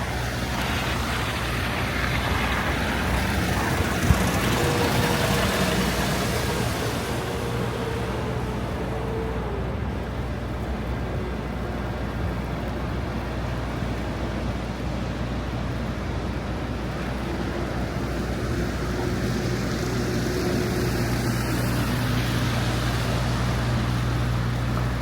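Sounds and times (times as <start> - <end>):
traffic hiss: 0.0 - 25.0
vehicle engines rumbling: 0.0 - 25.0.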